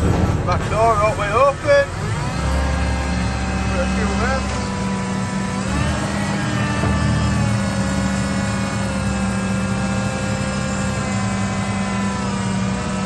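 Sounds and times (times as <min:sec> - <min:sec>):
tractor engine under load: 0:00.0 - 0:13.0.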